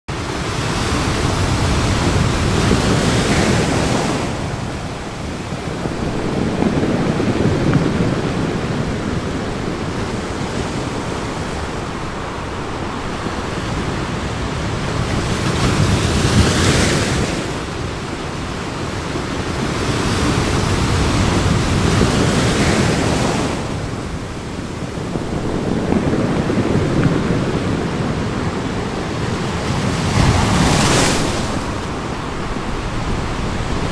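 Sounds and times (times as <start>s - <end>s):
surf breaking over rocks: 0.2s - 33.9s.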